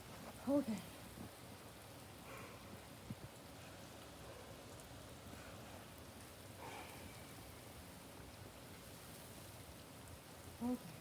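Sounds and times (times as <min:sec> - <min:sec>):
faint steady rain: 0:00.0 - 0:11.0.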